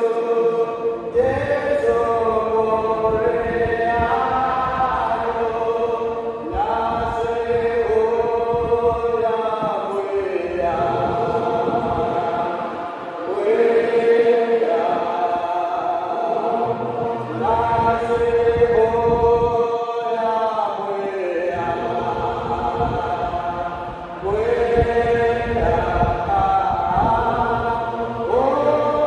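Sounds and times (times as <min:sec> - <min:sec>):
congregation singing a hymn: 0:00.0 - 0:29.0.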